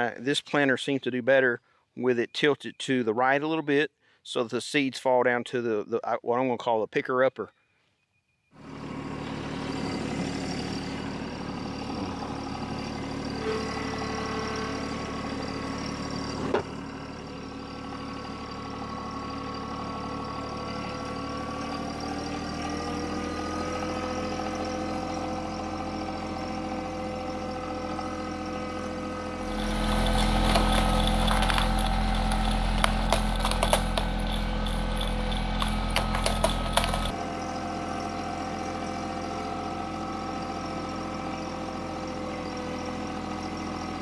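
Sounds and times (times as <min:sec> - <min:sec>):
tractor diesel engine running: 0:08.6 - 0:44.0.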